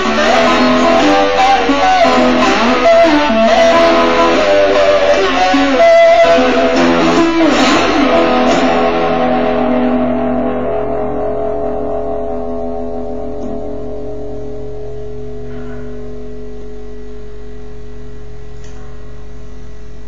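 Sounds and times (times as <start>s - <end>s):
electric guitar music: 0.0s - 19.0s.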